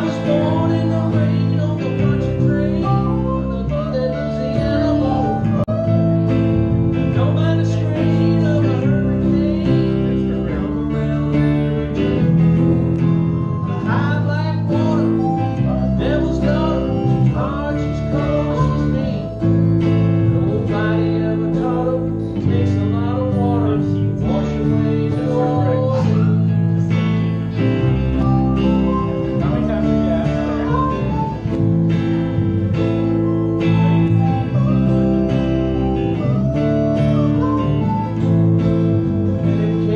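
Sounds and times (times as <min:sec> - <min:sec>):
acoustic guitars strumming: 0:00.0 - 0:39.9
person singing: 0:00.0 - 0:39.9.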